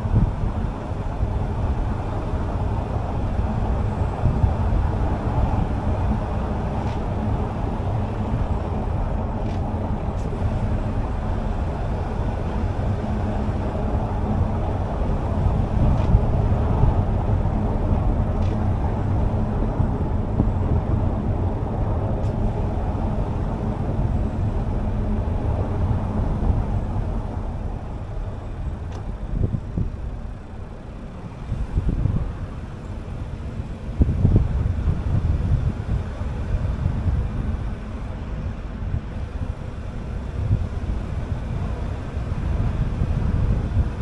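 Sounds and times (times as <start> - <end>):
car engine and road noise: 0.0 - 44.0
low hum: 0.0 - 44.0.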